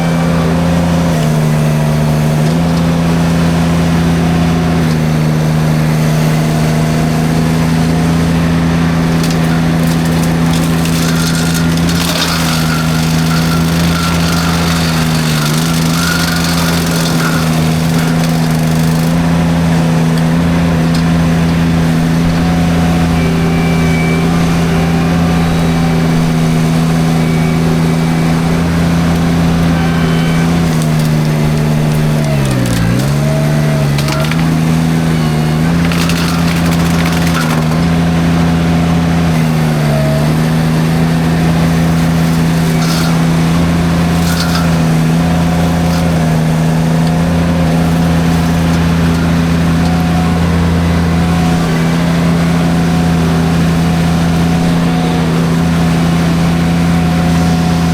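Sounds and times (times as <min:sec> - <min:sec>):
drum mulcher chewing brush: 0:00.0 - 0:57.9
skid steer engine running: 0:00.0 - 0:57.9
brush snapping: 0:09.0 - 0:57.9.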